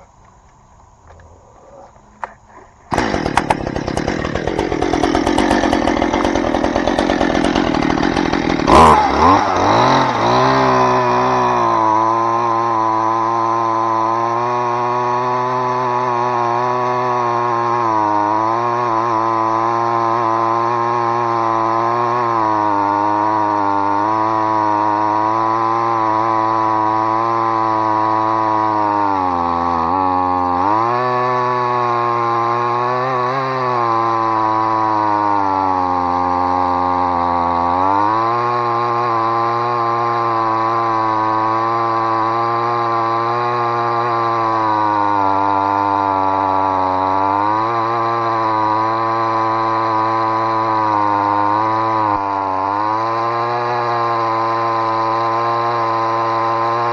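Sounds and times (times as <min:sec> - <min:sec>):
chainsaw cutting through wood: 0:00.0 - 0:56.9.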